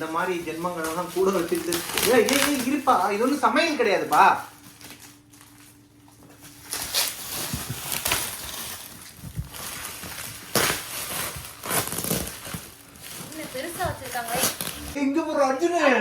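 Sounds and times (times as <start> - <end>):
gift wrapping tearing and crumpling: 0.0 - 15.0.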